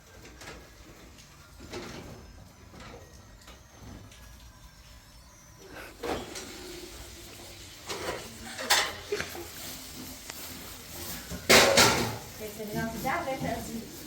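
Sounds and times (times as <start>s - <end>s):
pots and dishes clattering: 0.0s - 3.1s, 5.7s - 14.0s.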